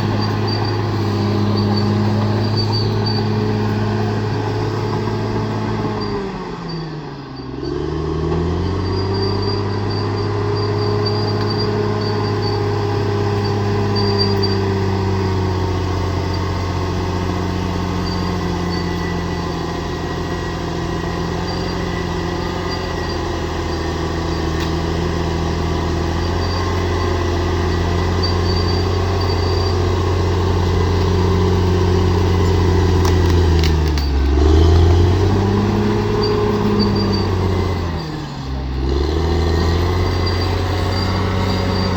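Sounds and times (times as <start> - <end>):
bulldozer engine revving: 0.0 - 41.9.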